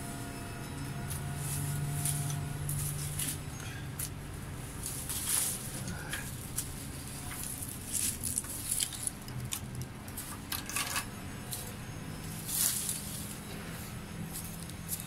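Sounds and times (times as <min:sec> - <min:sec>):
dry branches rustling and scraping: 0:00.0 - 0:15.0.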